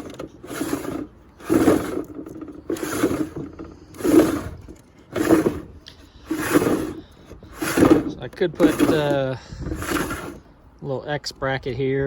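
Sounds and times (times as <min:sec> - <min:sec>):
cable reel scraping: 0:00.0 - 0:10.5.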